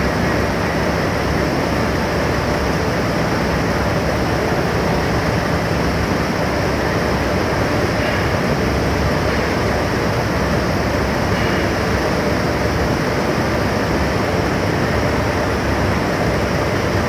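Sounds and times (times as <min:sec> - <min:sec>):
loud machinery noise: 0:00.0 - 0:17.0.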